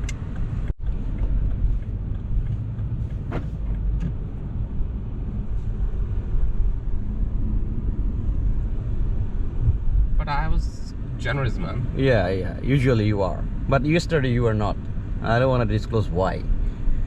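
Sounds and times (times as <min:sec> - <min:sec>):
car interior road noise: 0:00.0 - 0:17.0.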